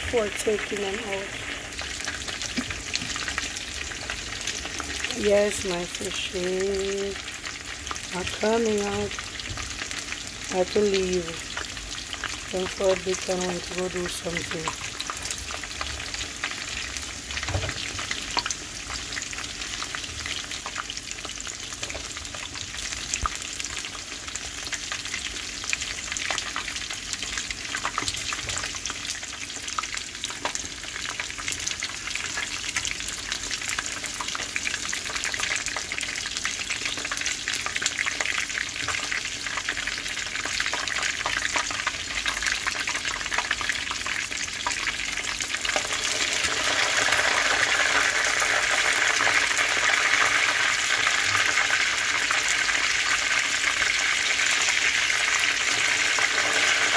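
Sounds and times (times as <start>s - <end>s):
fish sizzling in hot oil: 0.0s - 56.9s.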